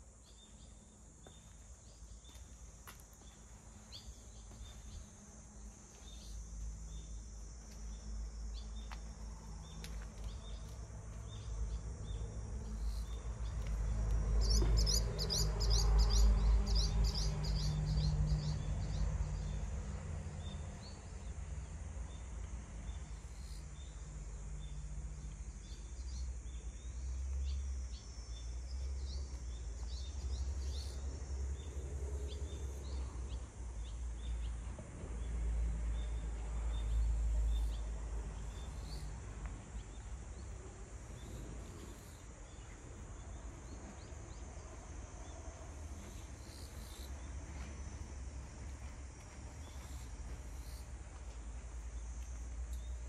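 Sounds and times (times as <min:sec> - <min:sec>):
small birds chirping: 0:00.2 - 0:19.7, 0:22.1 - 0:34.6, 0:35.2 - 0:44.7, 0:49.5 - 0:53.0.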